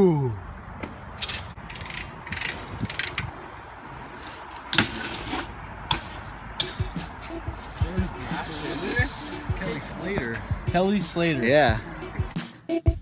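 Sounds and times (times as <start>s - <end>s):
bike scraping and knocking on concrete: 0.8s - 11.3s.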